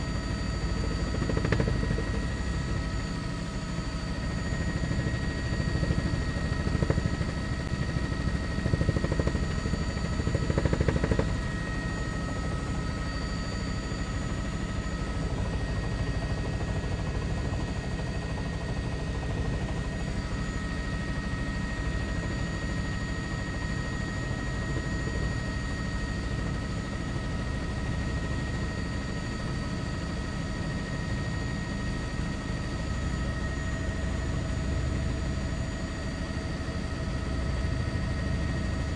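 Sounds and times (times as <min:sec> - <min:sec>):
helicopter turbine and rotor: 0:00.0 - 0:38.9.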